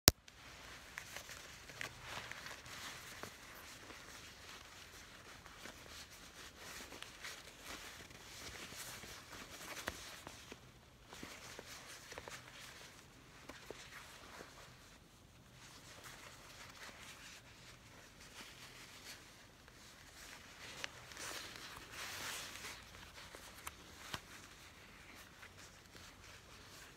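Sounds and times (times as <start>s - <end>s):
leather jacket rustling and crackling: 0.4s - 26.9s.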